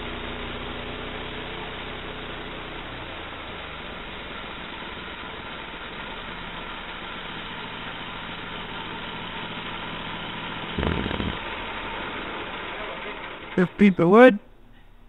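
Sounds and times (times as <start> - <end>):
gas engine running under load: 0.0 - 14.2.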